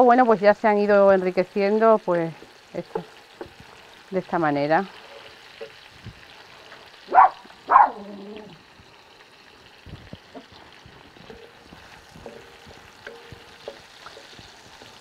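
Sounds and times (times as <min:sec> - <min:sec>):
meat frying in a pan: 0:00.0 - 0:15.0.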